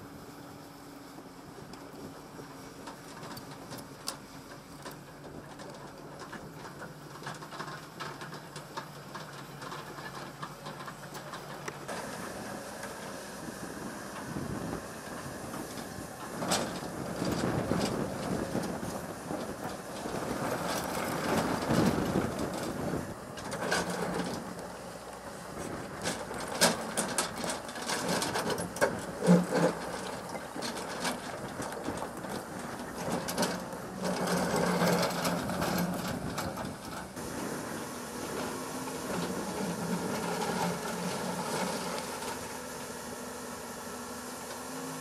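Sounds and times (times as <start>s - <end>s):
excavator running: 0.0s - 45.0s.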